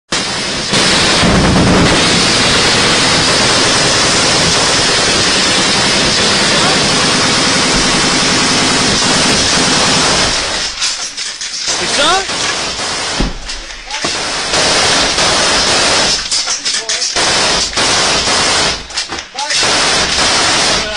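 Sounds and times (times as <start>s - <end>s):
automatic gunfire: 0.1s - 10.8s, 11.7s - 16.5s, 17.2s - 20.9s.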